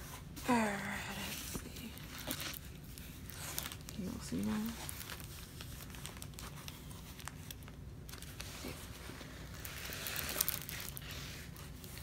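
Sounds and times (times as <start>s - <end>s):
canvas rustling and crinkling: 0.0s - 12.0s.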